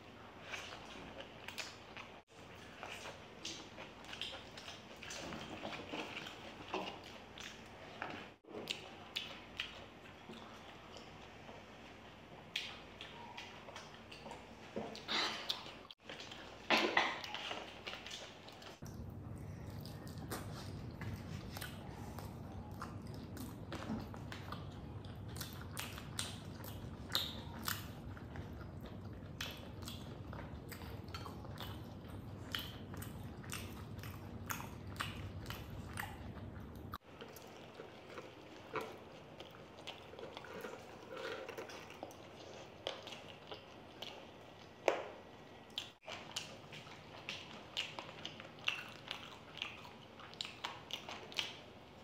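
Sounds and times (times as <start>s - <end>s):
low background hum: 0.0s - 52.0s
people chewing and smacking: 0.0s - 52.0s.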